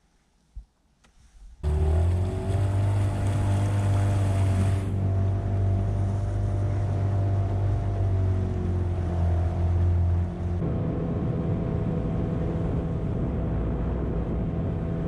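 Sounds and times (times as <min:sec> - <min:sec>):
boat motor droning: 0:01.6 - 0:15.0
rushing wind and water: 0:01.6 - 0:15.0.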